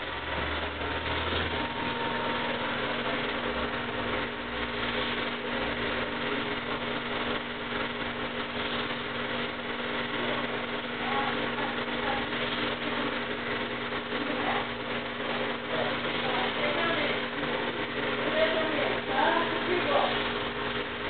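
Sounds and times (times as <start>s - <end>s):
film projector whirring: 0.0s - 21.0s
low hum: 0.0s - 21.0s.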